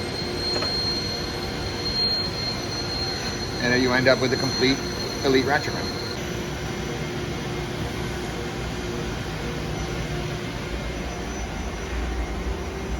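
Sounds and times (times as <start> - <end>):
faint steady tones: 0.0 - 12.9
machinery running: 0.0 - 12.9.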